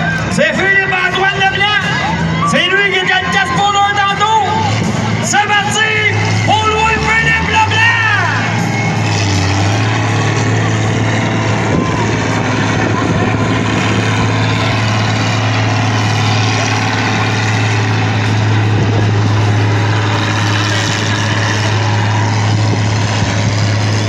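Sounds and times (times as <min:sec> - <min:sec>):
tractor engine droning: 0:00.0 - 0:24.0.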